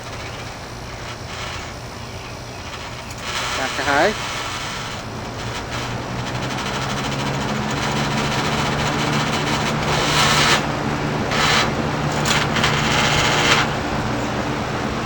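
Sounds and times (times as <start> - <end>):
rattling noise: 0.0 - 14.2
box fan motor hum and air rush: 0.0 - 15.0.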